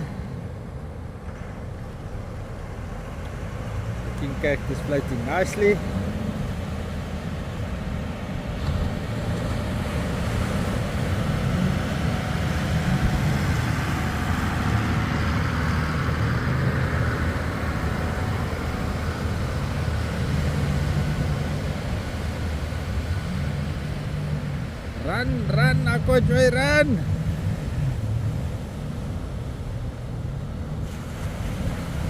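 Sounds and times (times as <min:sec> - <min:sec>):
engine running at low revs: 0:00.0 - 0:32.0.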